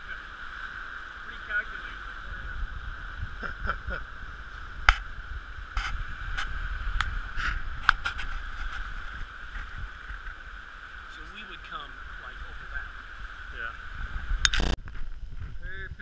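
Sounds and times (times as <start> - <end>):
river water rushing and splashing: 0.0 - 3.2, 4.0 - 14.7
steady low rumble: 0.0 - 16.0.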